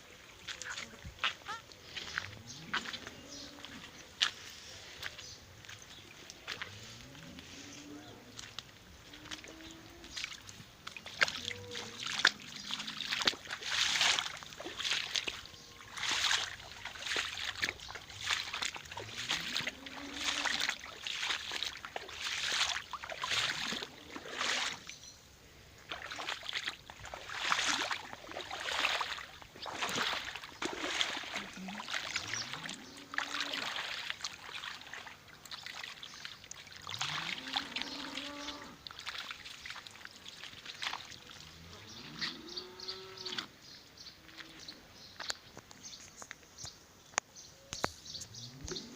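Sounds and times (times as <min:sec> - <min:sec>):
wet footsteps splashing in puddles: 0:00.2 - 0:25.0, 0:25.8 - 0:45.5.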